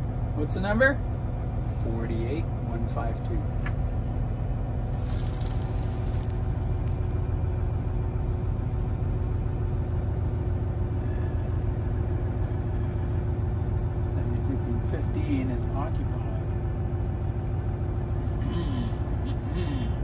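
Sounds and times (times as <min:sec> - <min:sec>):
truck diesel engine droning: 0:00.0 - 0:20.0.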